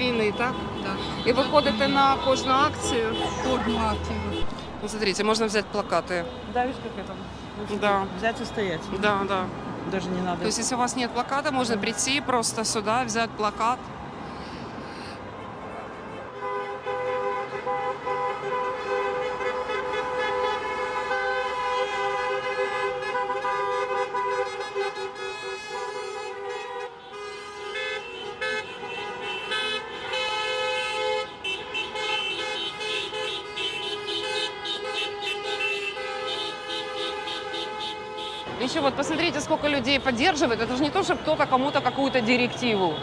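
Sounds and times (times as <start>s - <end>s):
car horns honking: 0.0s - 9.2s, 16.0s - 43.0s.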